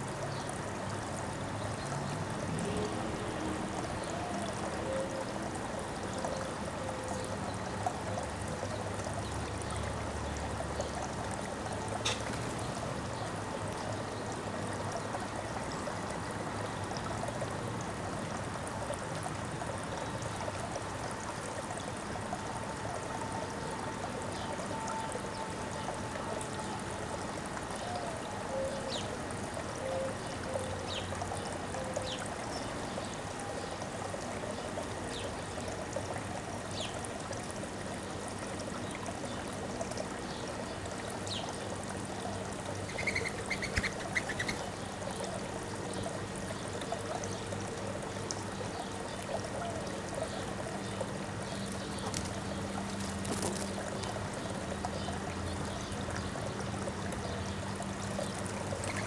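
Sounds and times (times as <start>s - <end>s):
flowing water splashing: 0.0s - 59.0s.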